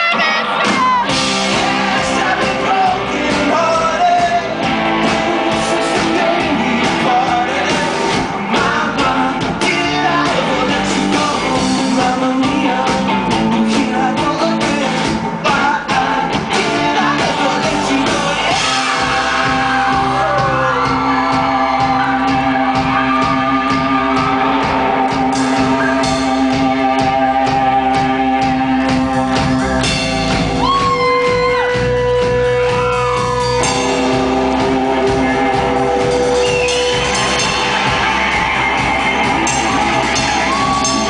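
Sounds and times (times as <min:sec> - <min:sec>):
drums: 0:00.0 - 0:41.0
electric guitar: 0:00.0 - 0:41.0.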